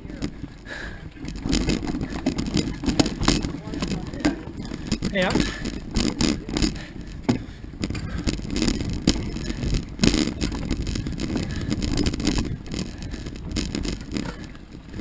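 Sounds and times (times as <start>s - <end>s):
bike knocks and rattles: 0.0s - 15.0s
tyres rumbling on dirt trail: 0.0s - 15.0s.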